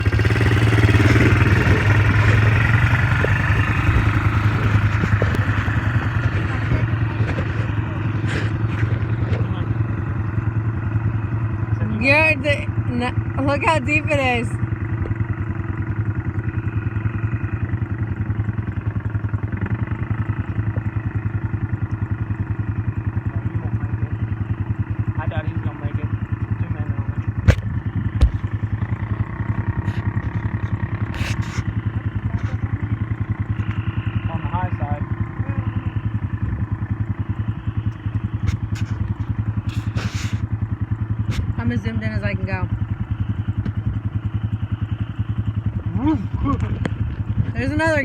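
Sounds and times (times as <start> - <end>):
atv engine idling: 0.0 - 48.0.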